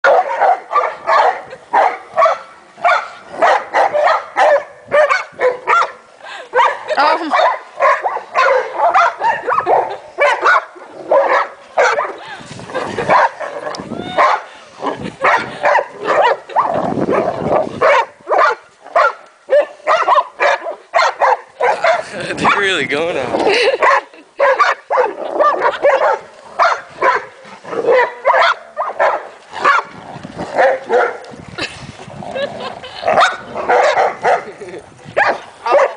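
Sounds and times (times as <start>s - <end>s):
dogs barking playfully: 0.0s - 22.7s, 23.5s - 31.7s, 32.4s - 35.9s.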